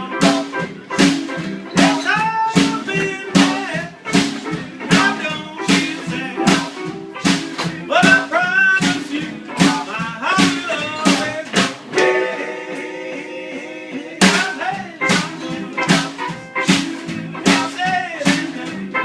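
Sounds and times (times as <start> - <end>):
electric guitar: 0.0 - 13.5, 14.3 - 19.0
drums keeping a beat: 0.0 - 19.0.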